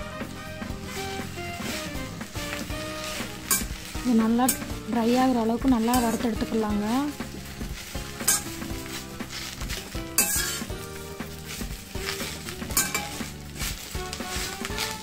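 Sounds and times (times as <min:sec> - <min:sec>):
leaves sizzling: 0:00.0 - 0:15.0
metal spoon scraping a pan: 0:00.1 - 0:15.0.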